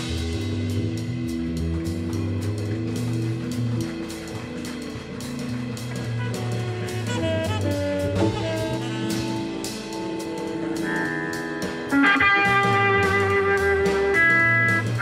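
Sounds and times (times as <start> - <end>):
live blues band playing: 0.0 - 15.0.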